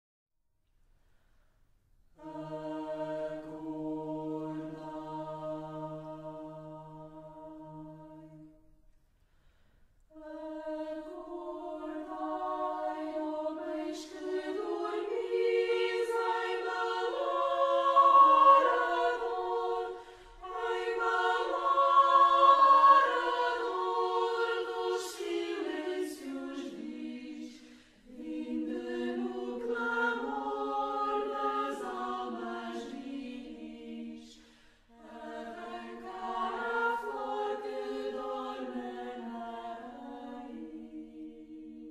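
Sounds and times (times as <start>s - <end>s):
choir singing slow sustained notes: 2.2s - 8.9s, 10.0s - 41.9s.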